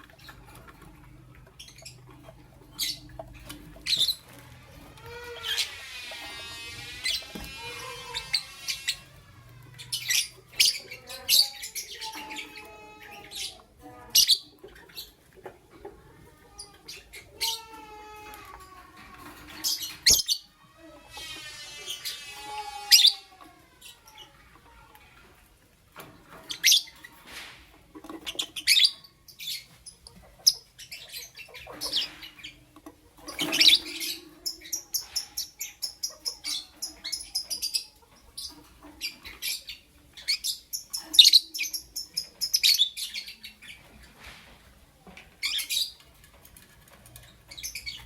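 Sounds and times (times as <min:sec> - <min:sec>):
lovebirds chirping: 0:00.0 - 0:25.2, 0:26.3 - 0:48.0.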